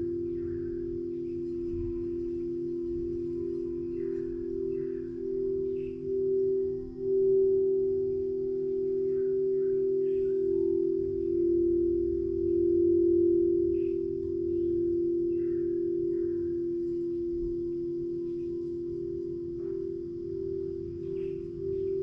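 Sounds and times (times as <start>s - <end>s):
singing bowls ringing: 0.0s - 22.0s.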